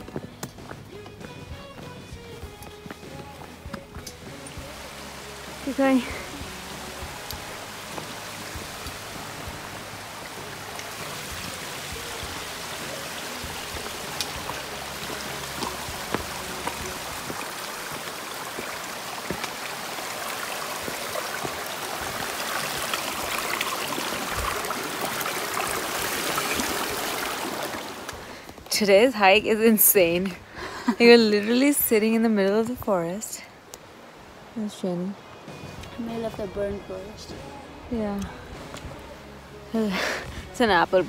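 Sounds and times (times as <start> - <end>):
creek running over rocks: 0.0 - 41.0.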